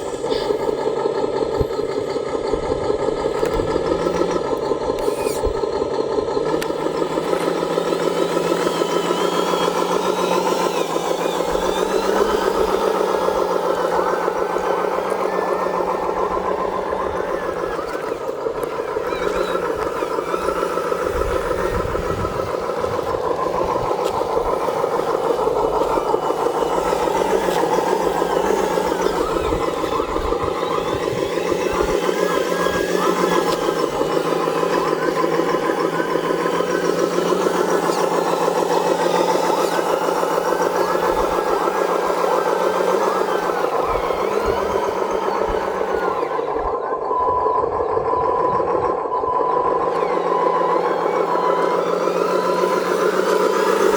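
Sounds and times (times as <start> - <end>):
simulated diesel truck engine: 0.0 - 53.9.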